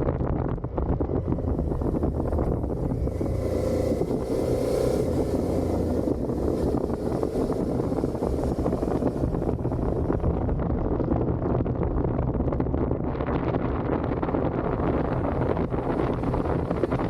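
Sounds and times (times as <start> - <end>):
motorcycle engine cruising: 0.0 - 17.0
wind buffeting microphone: 0.0 - 17.0.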